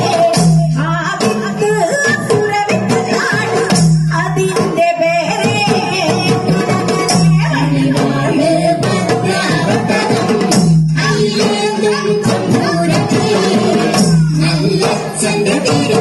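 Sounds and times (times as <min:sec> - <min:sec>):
drums beating: 0:00.0 - 0:16.0.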